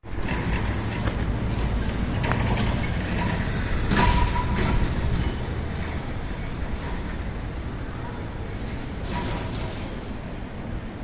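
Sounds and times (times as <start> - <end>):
street rumble: 0.0 - 11.0.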